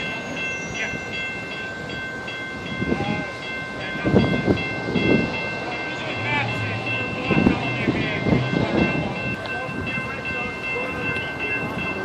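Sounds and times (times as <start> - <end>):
crossing bell ringing: 0.0 - 12.0
low train rumbles: 0.0 - 12.0.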